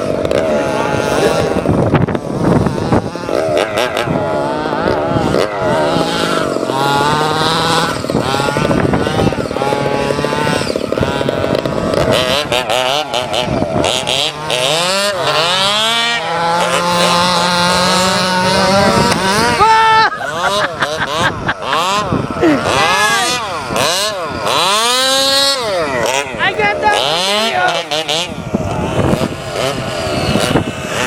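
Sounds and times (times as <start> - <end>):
two-stroke engine revving: 0.0 - 31.0.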